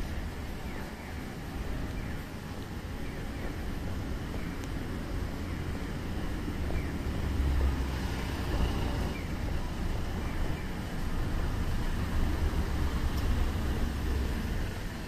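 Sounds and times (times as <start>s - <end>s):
cars and bus passing: 0.0s - 15.0s
heavy low traffic rumble: 0.0s - 15.0s.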